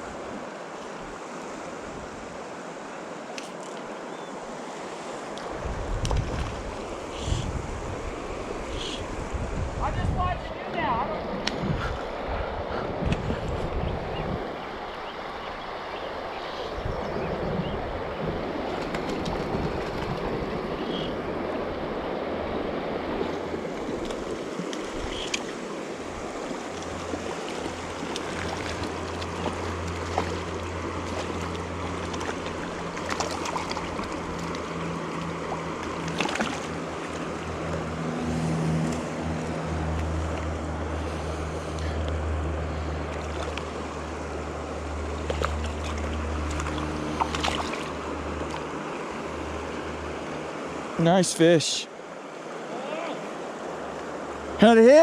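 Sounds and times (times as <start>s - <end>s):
river water rushing: 0.0s - 13.0s, 13.6s - 55.0s.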